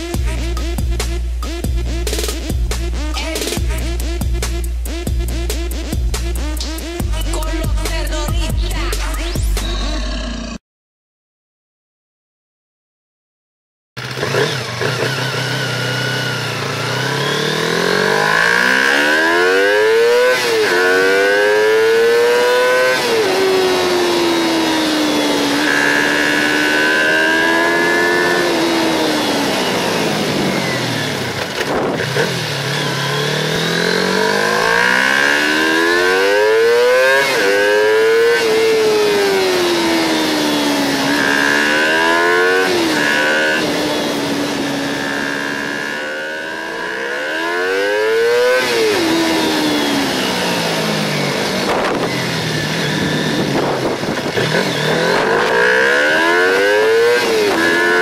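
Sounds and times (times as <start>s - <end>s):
motorcycle engine accelerating: 0.0s - 10.6s, 14.0s - 58.0s.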